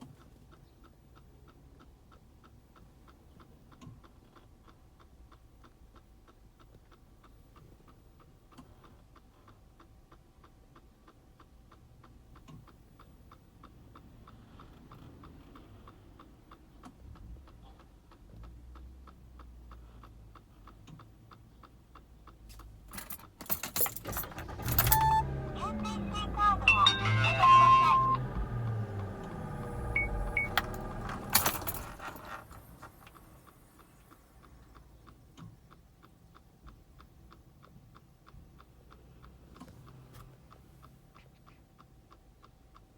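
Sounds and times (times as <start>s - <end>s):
clock-like ticking in dashboard: 0.0s - 42.9s.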